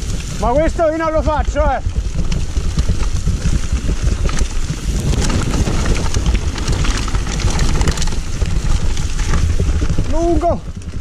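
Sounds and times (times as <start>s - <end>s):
bike rattling with quick clicks: 0.0s - 11.0s
bike tyres rumbling over dirt: 0.0s - 11.0s
wind buffeting microphone: 0.0s - 11.0s.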